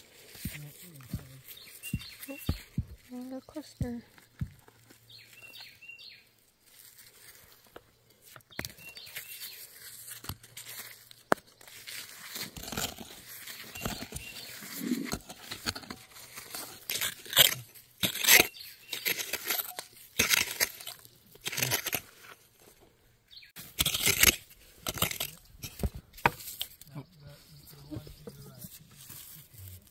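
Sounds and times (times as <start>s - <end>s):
hands digging through dry dirt: 0.0s - 25.8s, 26.4s - 29.9s.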